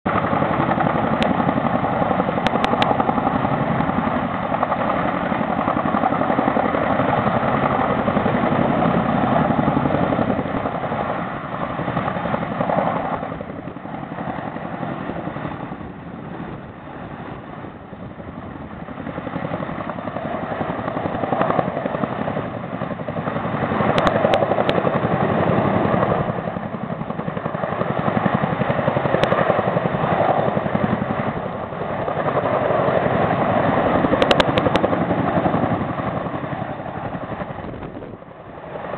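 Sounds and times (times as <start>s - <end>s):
helicopter rotor chop: 0.1s - 38.9s.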